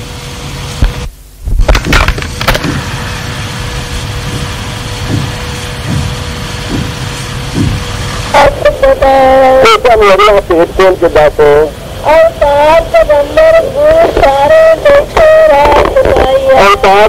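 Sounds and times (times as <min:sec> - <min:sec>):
recording hiss: 0:00.0 - 0:17.0
thin hum tone: 0:00.0 - 0:17.0.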